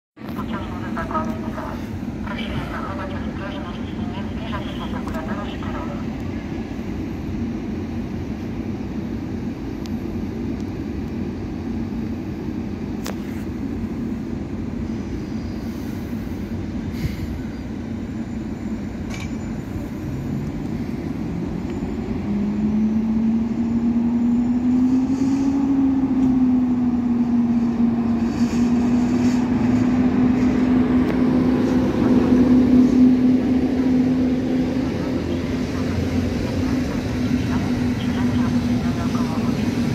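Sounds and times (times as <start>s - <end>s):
electric locomotive rumbling: 0.2s - 39.9s.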